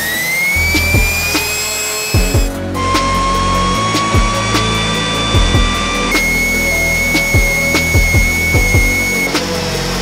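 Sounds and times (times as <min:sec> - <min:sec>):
background music with steady beat: 0:00.0 - 0:10.0
high compressor whine: 0:00.0 - 0:10.0
rotor spinning down: 0:00.0 - 0:10.0.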